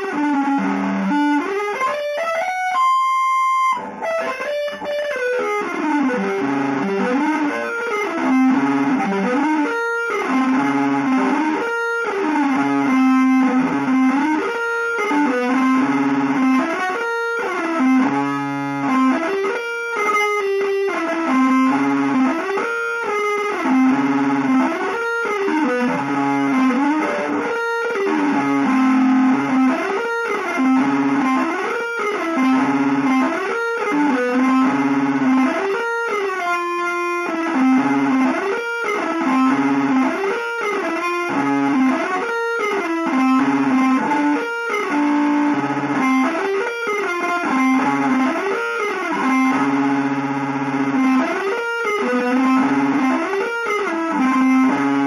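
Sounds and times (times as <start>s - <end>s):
electric guitar with effects: 0.0s - 55.0s.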